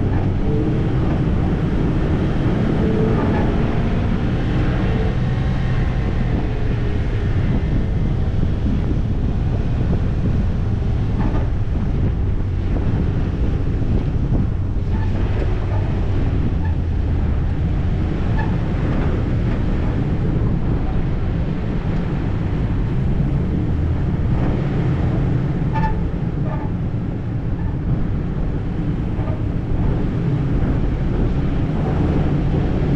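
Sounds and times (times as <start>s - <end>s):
engine and tyre rumble: 0.0s - 32.9s
wind buffeting microphone: 0.0s - 32.9s.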